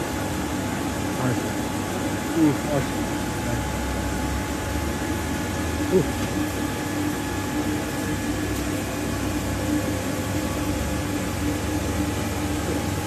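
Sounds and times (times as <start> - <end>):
machine whirring and humming: 0.0 - 13.0.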